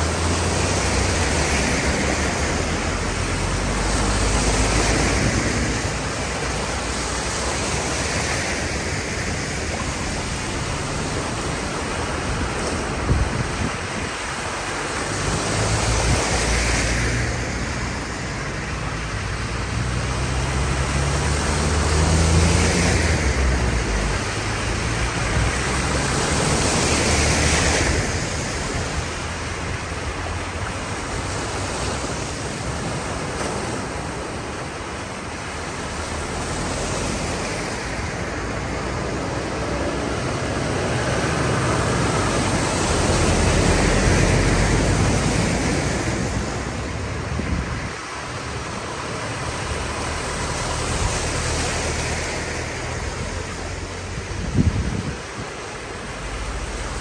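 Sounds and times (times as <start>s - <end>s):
cars splashing through water: 0.0s - 57.0s
water rushing across road: 0.0s - 57.0s.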